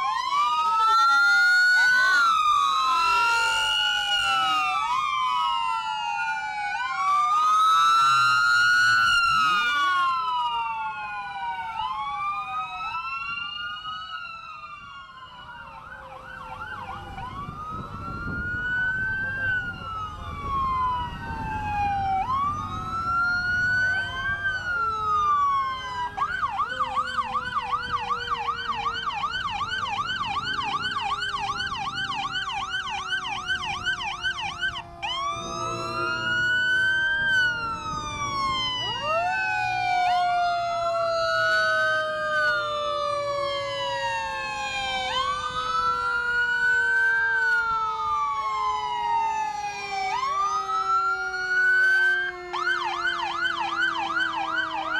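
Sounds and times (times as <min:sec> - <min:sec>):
fast yelp siren: 0:00.0 - 0:54.9
long siren tone sliding down: 0:00.0 - 0:54.9
wailing sirens: 0:00.0 - 0:54.9.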